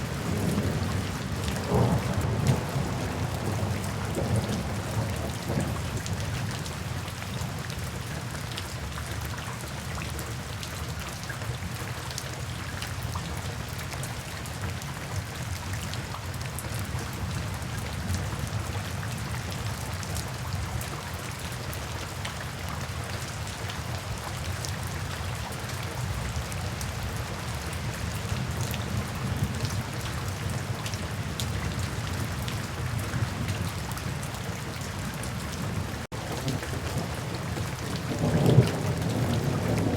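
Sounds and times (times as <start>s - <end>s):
rain drops ticking: 0.0s - 39.9s.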